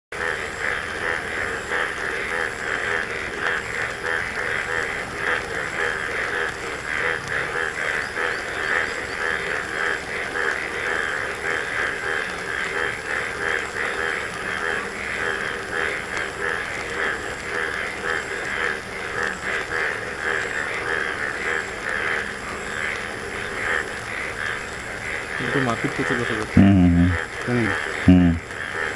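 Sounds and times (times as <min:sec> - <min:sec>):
chorus of frogs calling: 0:00.1 - 0:28.9.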